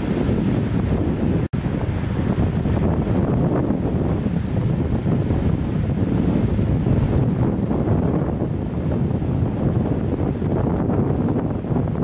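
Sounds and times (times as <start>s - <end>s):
ocean waves on rocky shore: 0.0s - 12.0s
wind buffeting microphone: 0.0s - 12.0s.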